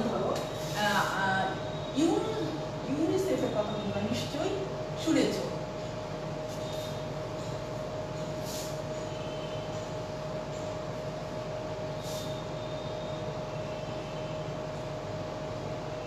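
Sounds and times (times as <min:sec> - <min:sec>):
fan whine and room hum: 0:00.0 - 0:16.0.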